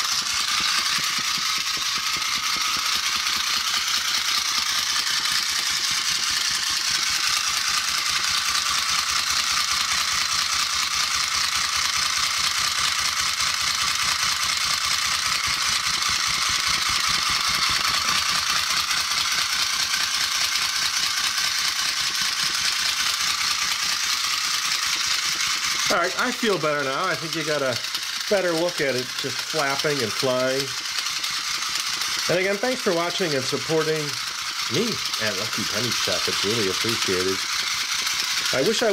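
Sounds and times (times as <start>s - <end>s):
toy motor whirring: 0.0s - 38.9s.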